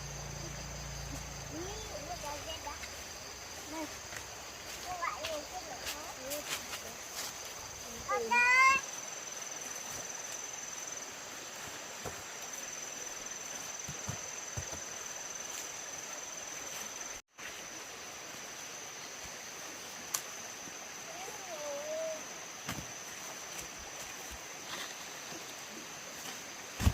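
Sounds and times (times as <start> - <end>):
faint outdoor background noise: 0.0 - 26.9
insects trilling: 0.0 - 26.9.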